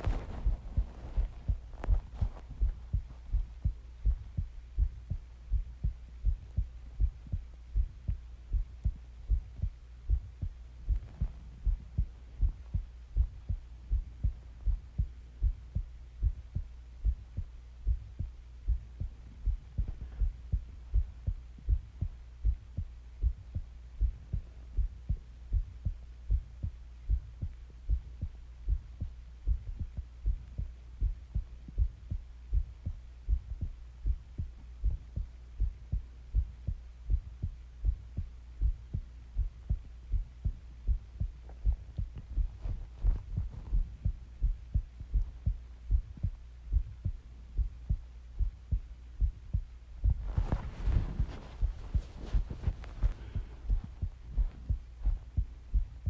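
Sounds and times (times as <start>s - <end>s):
constant low hum: 0.0s - 56.0s
heartbeat thumps: 0.0s - 56.0s.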